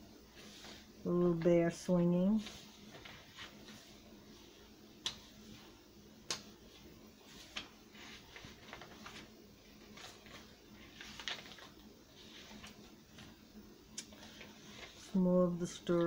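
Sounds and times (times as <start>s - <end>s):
pages turning: 0.3s - 0.9s, 2.4s - 13.4s, 14.0s - 16.0s.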